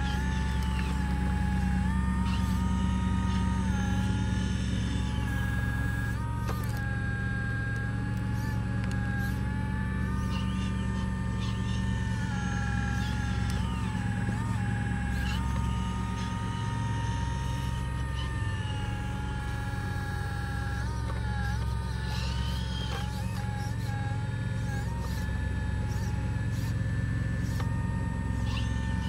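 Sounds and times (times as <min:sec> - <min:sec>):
electric motor whine: 0:00.0 - 0:29.0
steady low hum: 0:00.0 - 0:29.0.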